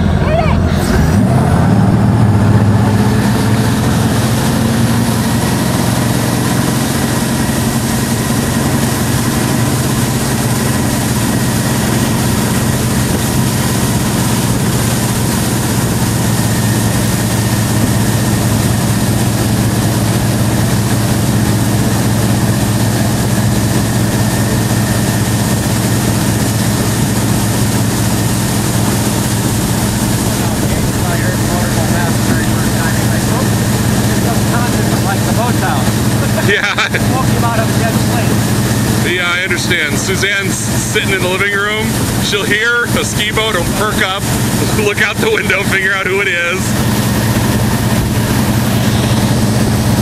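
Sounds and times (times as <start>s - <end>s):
boat engine: 0.0s - 50.0s
wind and water rushing: 0.0s - 50.0s.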